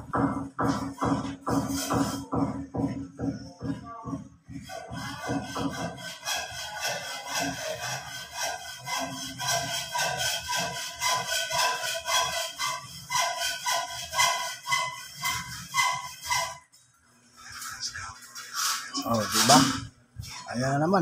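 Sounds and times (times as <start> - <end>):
rhythmic rasping strokes: 0.1 - 16.8, 17.4 - 21.0.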